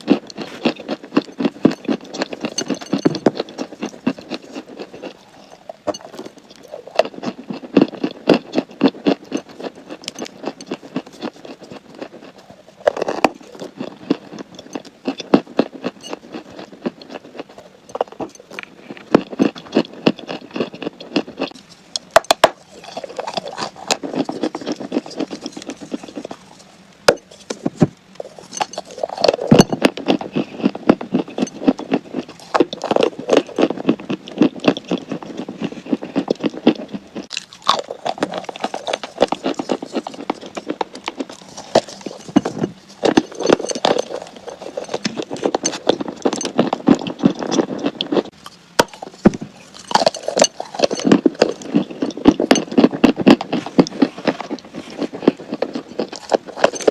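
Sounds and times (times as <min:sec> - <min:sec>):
chalk being bitten and chewed: 0:00.0 - 0:56.9.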